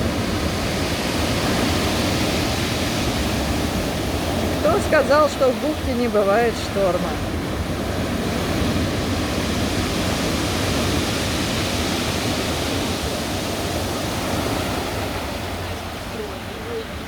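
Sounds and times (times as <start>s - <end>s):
surf breaking on shore: 0.0s - 17.0s.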